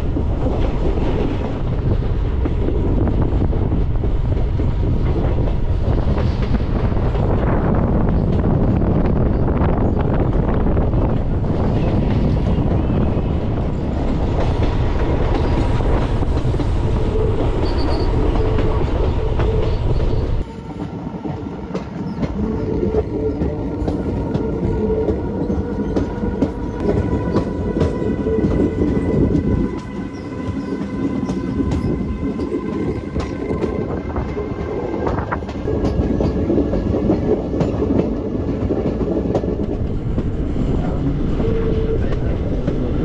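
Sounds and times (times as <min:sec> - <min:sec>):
wind rumble on microphone: 0:00.0 - 0:20.4, 0:21.1 - 0:43.0.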